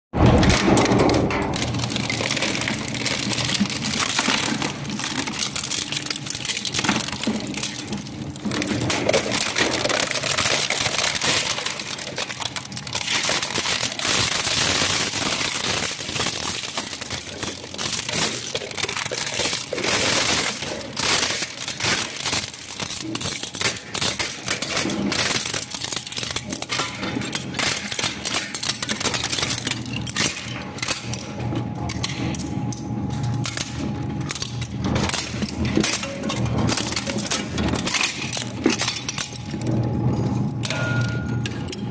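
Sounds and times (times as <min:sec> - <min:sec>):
plastic crunching and cracking: 0:00.2 - 0:41.9.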